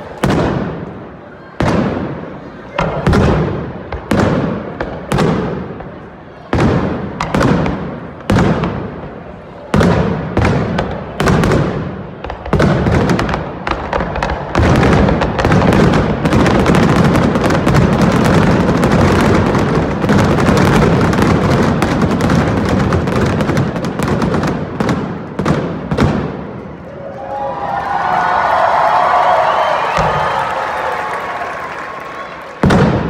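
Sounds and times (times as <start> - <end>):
fireworks bangs and crackling: 0.0 - 26.9, 28.5 - 33.0.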